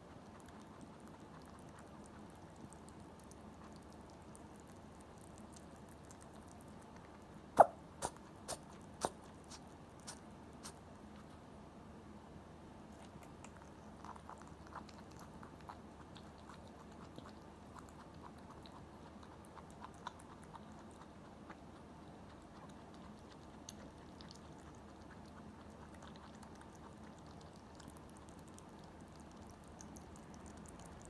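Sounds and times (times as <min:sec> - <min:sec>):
rabbit chewing: 0:00.0 - 0:31.0.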